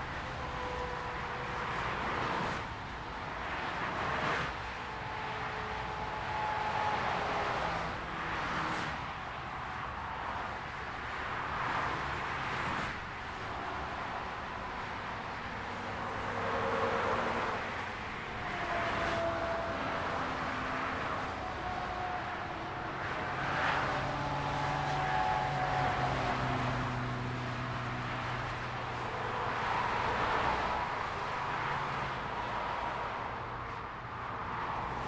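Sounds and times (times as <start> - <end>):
traffic tyres and engines rushing: 0.0 - 35.0.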